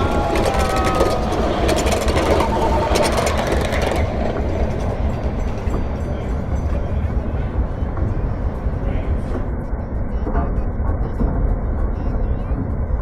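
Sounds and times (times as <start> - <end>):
train low rumble: 0.0 - 13.0
train wheels clacking on rails: 0.0 - 13.0.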